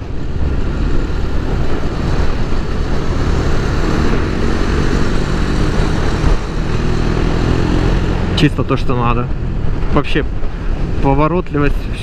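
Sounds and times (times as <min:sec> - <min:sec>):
motorcycle engine running: 0:00.0 - 0:11.0
wind noise: 0:00.0 - 0:12.0.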